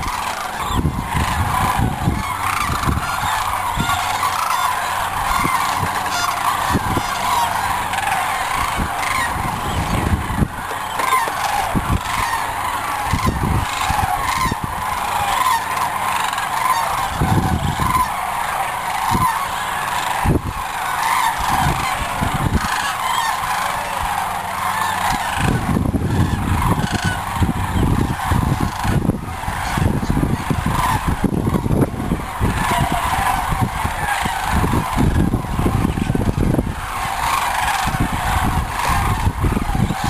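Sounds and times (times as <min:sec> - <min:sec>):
cranes calling in chorus: 0:00.0 - 0:40.0
wind buffeting microphone: 0:00.0 - 0:40.0.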